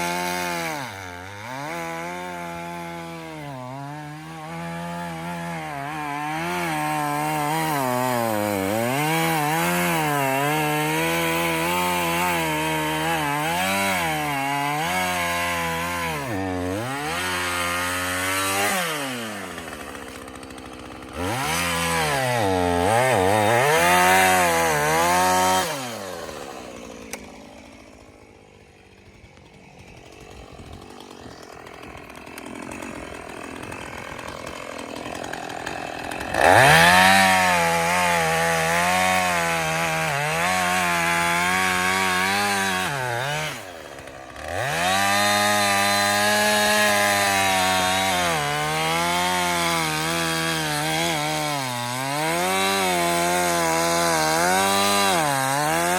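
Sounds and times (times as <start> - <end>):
chainsaw cutting: 0.0 - 55.9.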